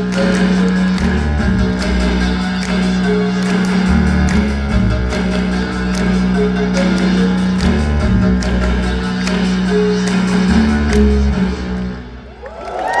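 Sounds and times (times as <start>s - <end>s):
synth-pop band playing: 0.0s - 11.8s
crowd cheering: 0.0s - 13.0s.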